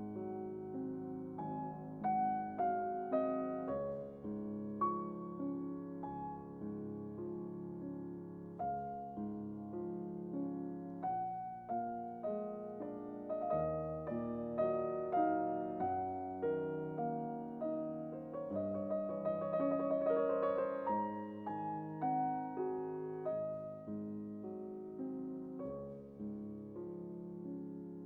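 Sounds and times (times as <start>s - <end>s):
slow solo piano: 0.0s - 28.0s.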